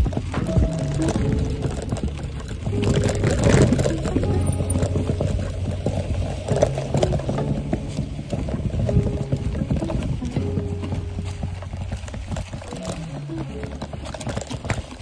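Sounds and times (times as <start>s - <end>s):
music bass notes: 0.0s - 14.2s
bicycle rattling over bumps: 0.0s - 15.0s.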